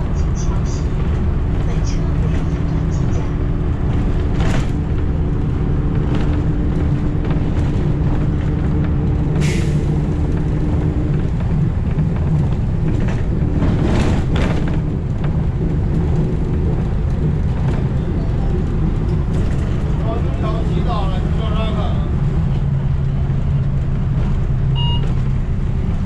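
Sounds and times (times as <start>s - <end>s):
bus drone and road rumble: 0.0s - 26.0s.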